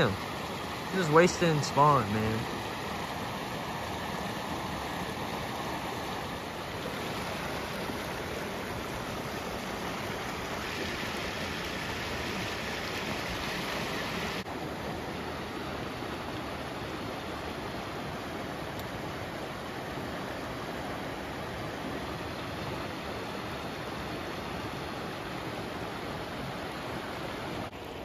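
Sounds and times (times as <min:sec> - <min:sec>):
river water rushing over rocks: 0:00.0 - 0:28.0.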